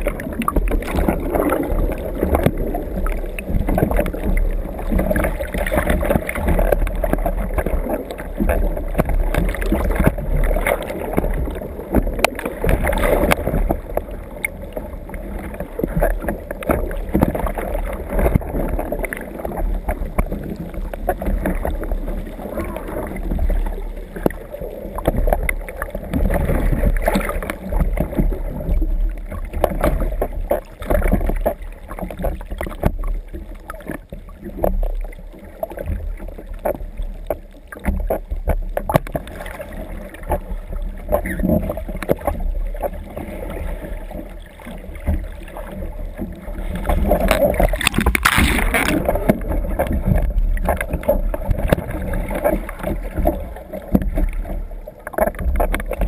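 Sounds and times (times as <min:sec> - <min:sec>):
kayak knocks and bumps: 0:00.0 - 0:56.0
water splashing and sloshing: 0:00.0 - 0:56.0.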